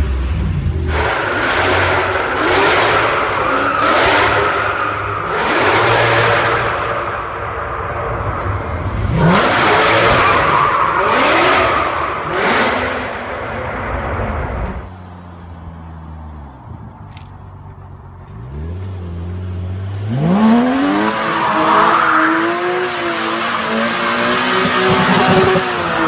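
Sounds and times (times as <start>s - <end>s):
car engine revving: 0.0s - 14.8s, 18.2s - 26.0s.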